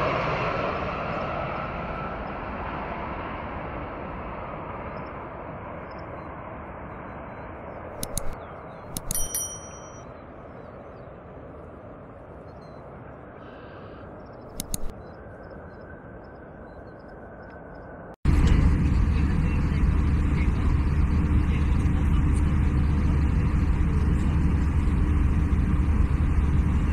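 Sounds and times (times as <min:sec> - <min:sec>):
airliner cabin drone: 0:00.0 - 0:26.9.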